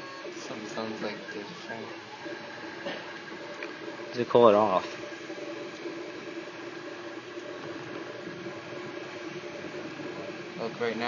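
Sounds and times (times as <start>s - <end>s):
cooling fan running: 0.0s - 11.0s
stepper motors electronic tones: 0.0s - 11.0s.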